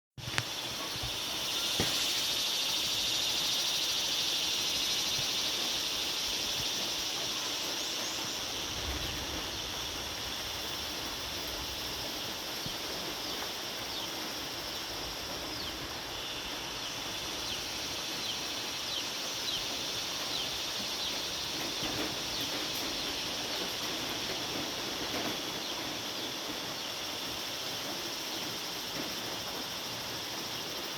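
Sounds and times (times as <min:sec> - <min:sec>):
crickets and insects trilling: 0:00.2 - 0:30.9.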